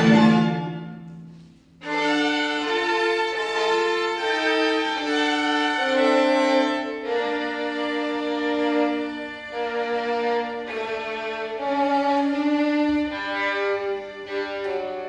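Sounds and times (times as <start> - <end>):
chamber string orchestra playing: 0.0 - 15.0.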